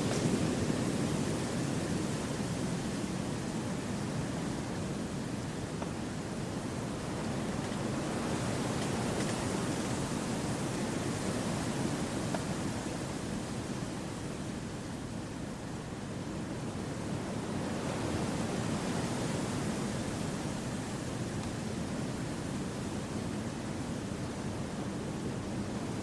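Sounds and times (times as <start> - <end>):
wind through forest trees: 0.0 - 26.0.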